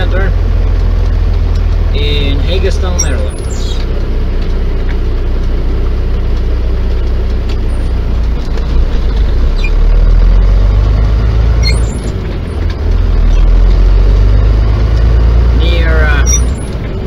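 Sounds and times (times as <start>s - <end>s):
truck engine rumble in cab: 0.0s - 17.0s.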